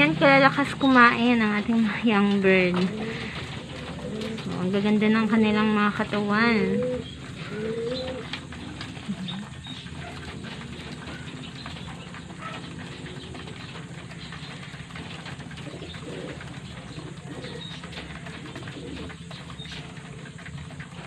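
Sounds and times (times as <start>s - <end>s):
pigeons cooing: 0.0s - 21.0s
pigeons pecking clicks: 0.0s - 21.0s.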